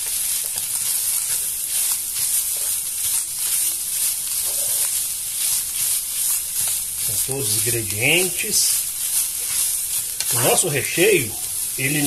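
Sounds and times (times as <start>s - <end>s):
chicken sizzling in frying pan: 0.0s - 12.0s
spatula scraping pan: 2.2s - 12.0s.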